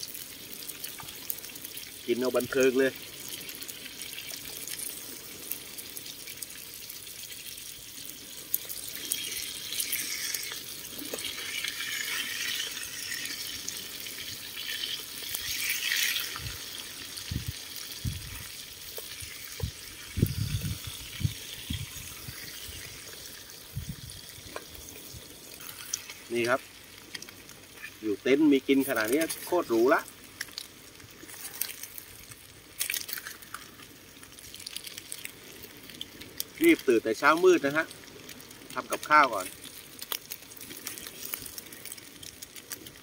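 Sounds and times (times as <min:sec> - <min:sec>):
food sizzling in a pot: 0:00.0 - 0:43.0.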